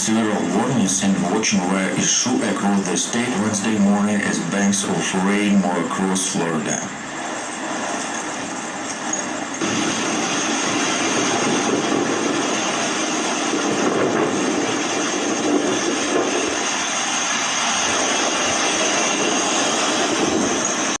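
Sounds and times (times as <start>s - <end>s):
strong hurricane wind blowing: 0.0s - 21.0s.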